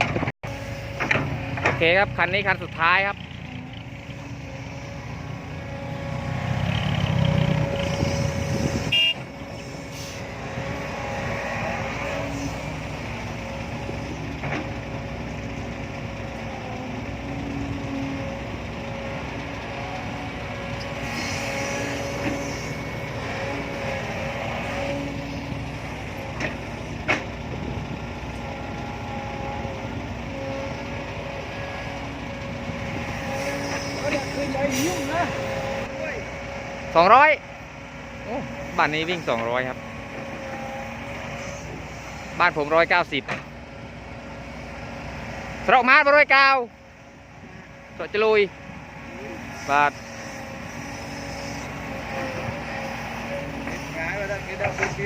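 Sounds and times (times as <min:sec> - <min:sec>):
diesel engine with whine: 0:00.0 - 0:55.0.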